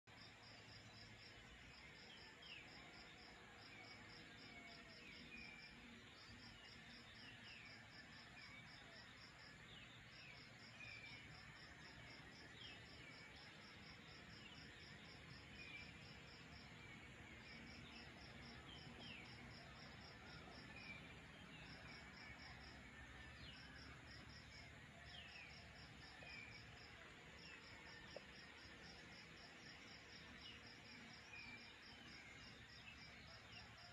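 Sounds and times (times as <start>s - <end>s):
night insects chirping: 0.1s - 33.9s.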